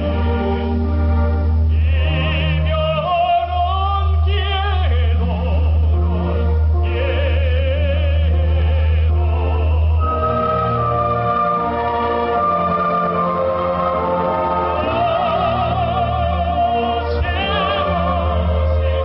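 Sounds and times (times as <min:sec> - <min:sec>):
instrumental accompaniment: 0:00.0 - 0:19.0
man singing operatically: 0:01.7 - 0:11.3, 0:13.0 - 0:19.0.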